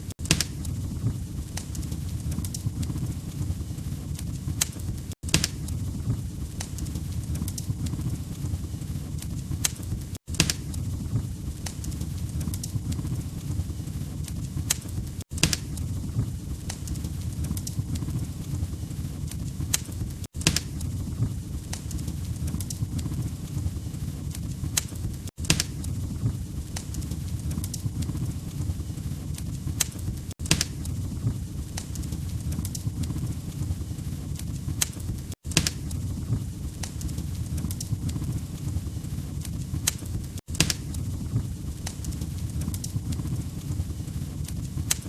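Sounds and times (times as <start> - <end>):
log fire crackling: 0.0 - 45.0
low fire rumble: 0.0 - 45.0.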